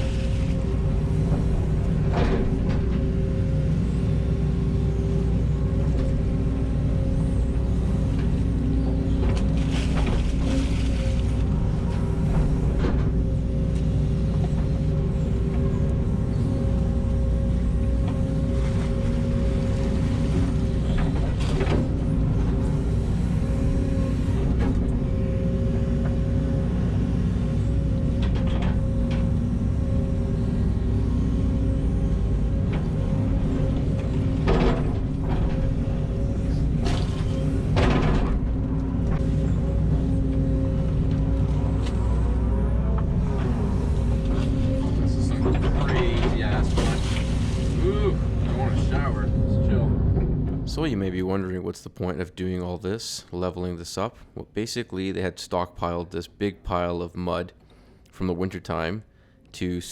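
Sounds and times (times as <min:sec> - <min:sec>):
heavy diesel engine running: 0:00.0 - 0:50.8.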